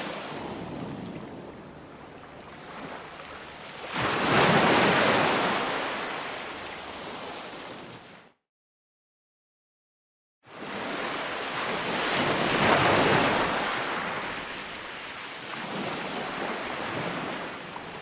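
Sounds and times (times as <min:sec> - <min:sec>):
ocean waves breaking: 0:00.0 - 0:08.3, 0:10.5 - 0:18.0.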